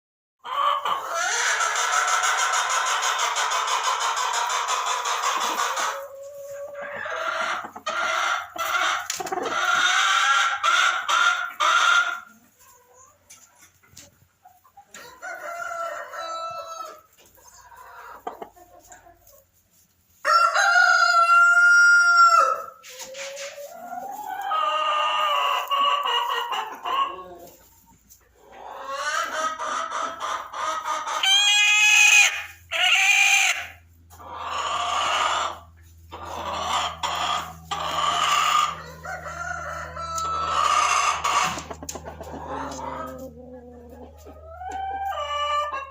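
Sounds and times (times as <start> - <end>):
hen calling and clucking: 0.4 - 45.9.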